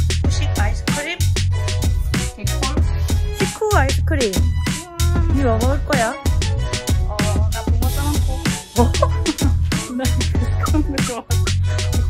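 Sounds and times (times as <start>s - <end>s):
hip-hop music with heavy bass: 0.0s - 12.0s.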